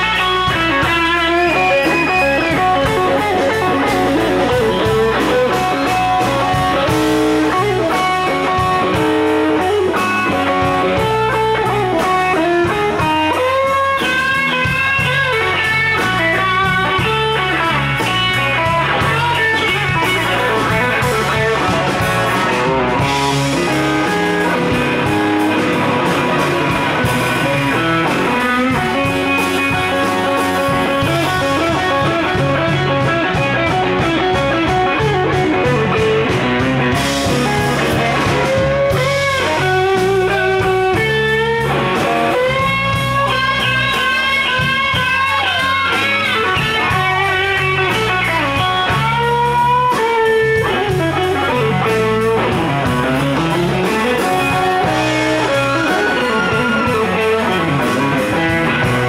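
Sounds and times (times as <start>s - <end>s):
bass: 0.0s - 59.0s
drums: 0.0s - 59.0s
electric guitar lead: 0.0s - 59.0s.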